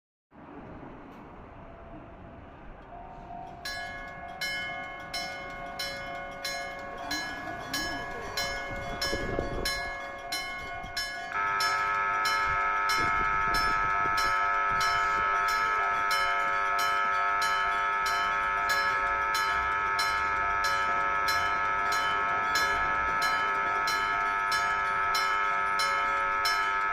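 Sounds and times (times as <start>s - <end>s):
level crossing warning bell: 2.9s - 26.9s.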